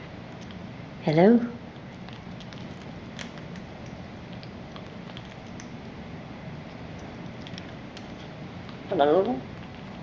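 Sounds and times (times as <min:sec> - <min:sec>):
parrot crunching breadstick: 0:01.7 - 0:10.0.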